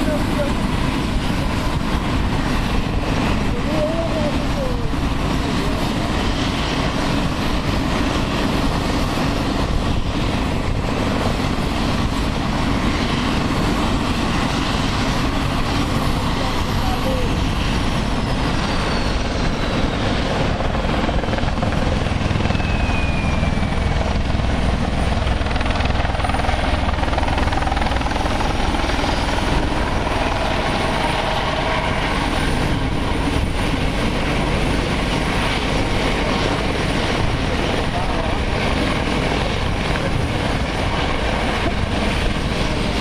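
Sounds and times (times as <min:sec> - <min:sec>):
helicopter rotor and turbine noise: 0:00.0 - 0:43.0.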